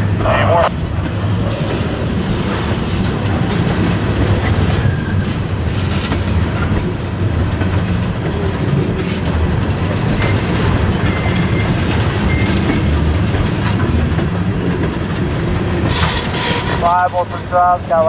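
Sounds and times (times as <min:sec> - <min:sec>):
low rumble of train: 0:00.0 - 0:18.0
train wheels clattering: 0:00.8 - 0:18.0.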